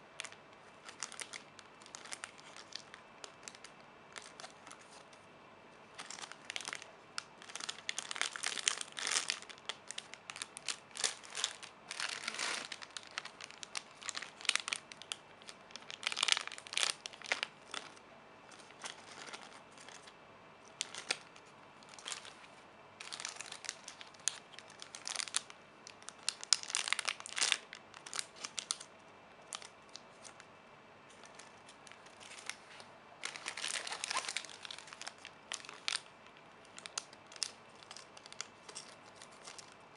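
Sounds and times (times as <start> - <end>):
plastic packaging crinkling: 0.1 - 5.2, 5.9 - 30.5, 31.1 - 39.9.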